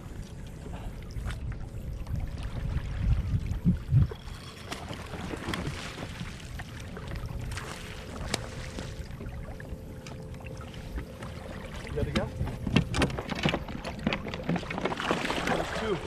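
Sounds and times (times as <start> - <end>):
water sloshing against hull: 0.0 - 16.0
wind on microphone: 1.2 - 15.6.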